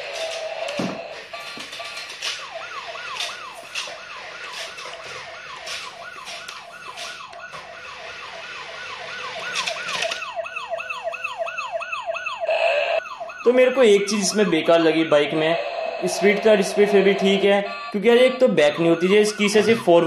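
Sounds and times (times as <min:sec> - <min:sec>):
toy electronic siren wailing: 0:00.0 - 0:20.0.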